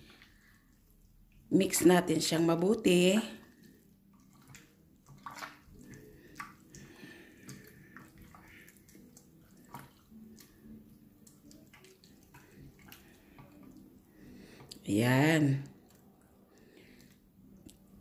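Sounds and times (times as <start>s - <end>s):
liquid dripping: 0.0s - 18.0s
wet squelches: 0.0s - 18.0s.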